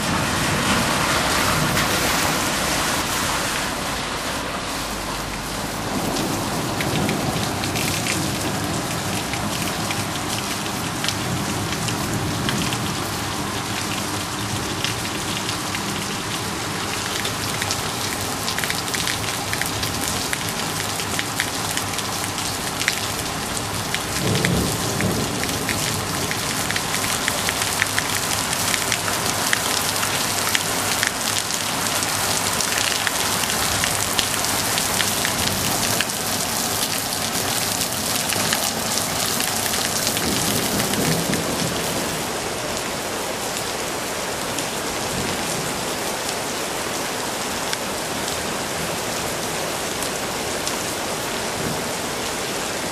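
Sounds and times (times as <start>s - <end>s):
heavy rain on hard surfaces: 0.0s - 52.9s.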